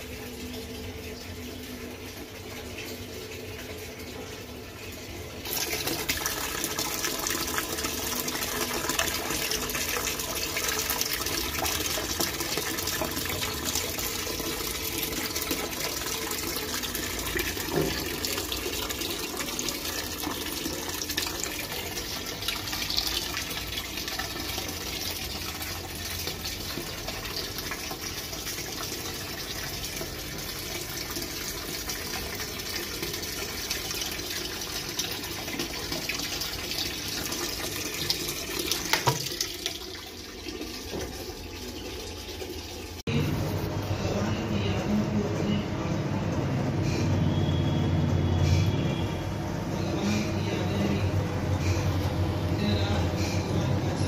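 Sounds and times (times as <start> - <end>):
water filling washing machine tub: 0.0 - 54.0.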